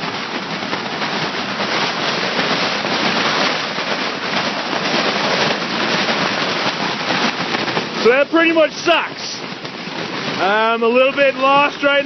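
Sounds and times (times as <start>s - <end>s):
tent fabric flapping: 0.0s - 12.0s
wind buffeting microphone: 0.0s - 12.0s.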